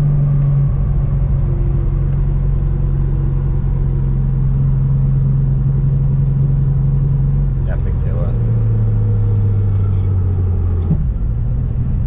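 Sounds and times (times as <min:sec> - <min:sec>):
car engine and exhaust drone: 0:00.0 - 0:12.0.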